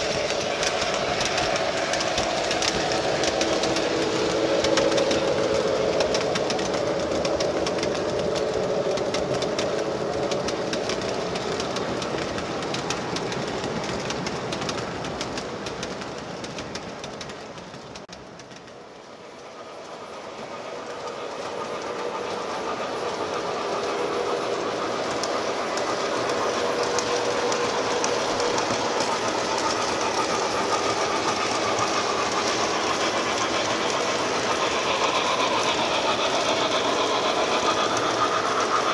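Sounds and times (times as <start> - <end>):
locomotive hum: 0.0 - 38.9
model trains rumbling: 0.0 - 38.9
wheels clicking over rails: 0.0 - 38.9.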